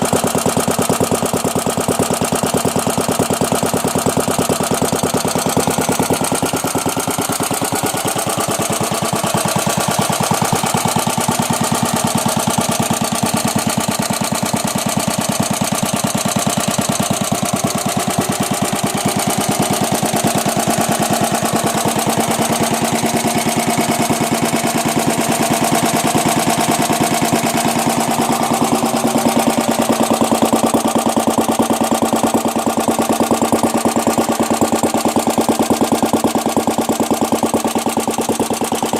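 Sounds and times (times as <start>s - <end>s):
stationary petrol engine running: 0.0s - 38.9s.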